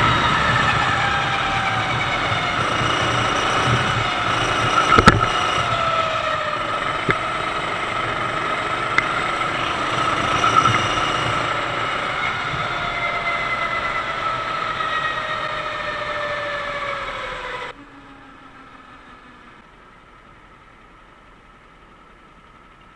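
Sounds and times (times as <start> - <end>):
kart engine running: 0.0 - 22.9.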